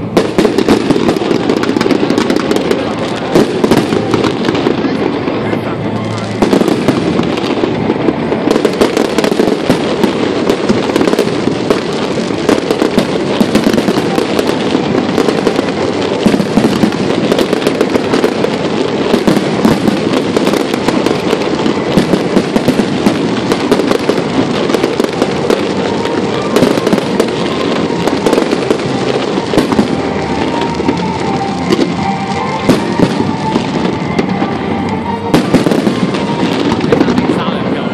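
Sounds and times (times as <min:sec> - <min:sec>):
fireworks bursting and crackling: 0:00.0 - 0:37.9.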